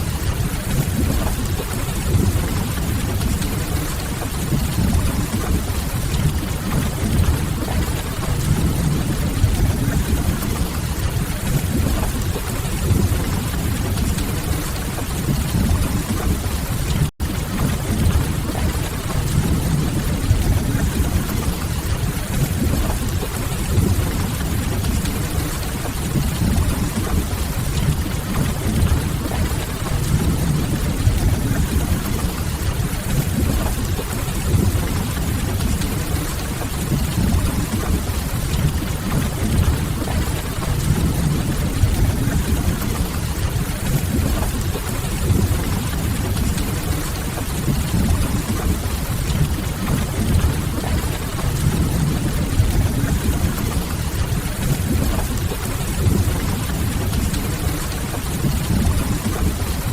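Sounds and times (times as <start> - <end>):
steady rain: 0.0 - 59.9
water dripping: 0.0 - 59.9.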